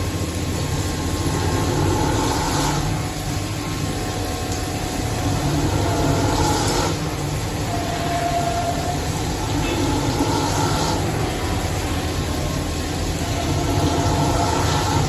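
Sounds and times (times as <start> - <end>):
machine running with low hum: 0.0 - 15.0
whining cutting tones: 1.0 - 15.0.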